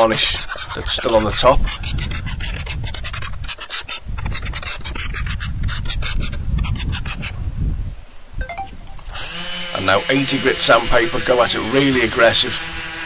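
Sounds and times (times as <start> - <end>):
hand scraper scraping varnish off wood: 0.0 - 7.3, 9.1 - 13.0.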